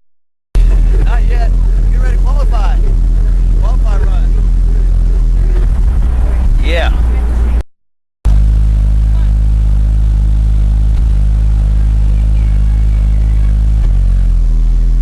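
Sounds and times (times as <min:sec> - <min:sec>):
car engine running: 0:00.6 - 0:07.6, 0:08.3 - 0:15.0.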